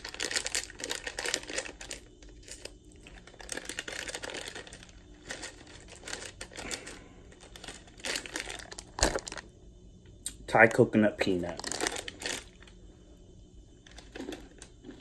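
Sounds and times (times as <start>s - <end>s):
plastic candy bag crinkling: 0.0s - 9.5s, 11.2s - 12.8s, 13.8s - 15.0s.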